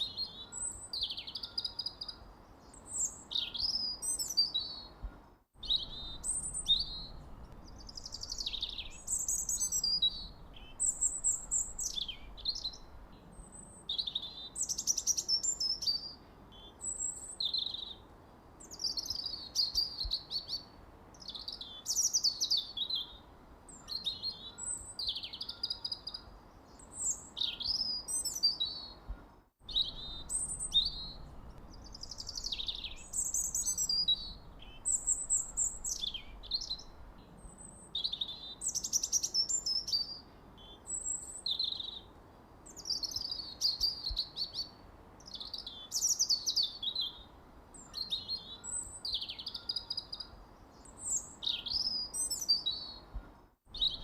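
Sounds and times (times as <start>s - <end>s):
faint background hiss: 0.0s - 54.0s
songbirds chirping and singing: 0.0s - 54.0s.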